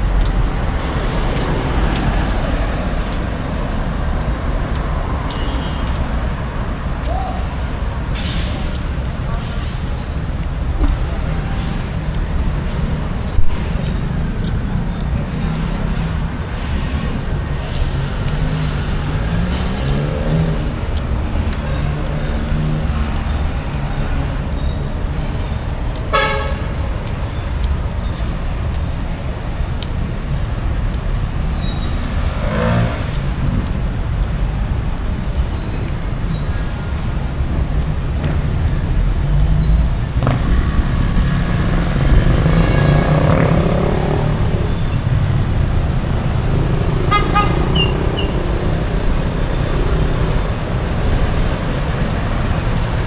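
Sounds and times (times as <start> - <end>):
passing vehicles rumbling: 0.0 - 53.0.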